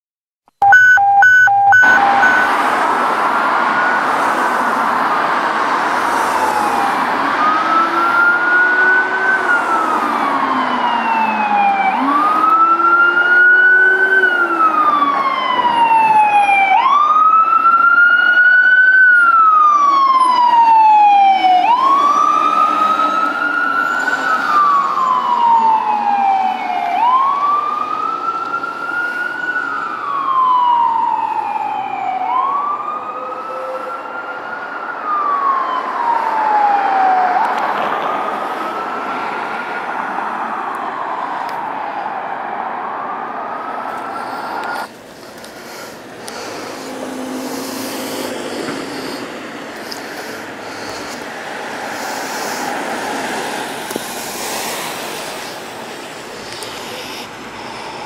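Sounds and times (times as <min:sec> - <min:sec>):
wailing electronic siren: 0:00.6 - 0:44.9, 0:46.2 - 0:57.4
low howler siren tone: 0:01.7 - 0:44.9, 0:46.2 - 0:57.6.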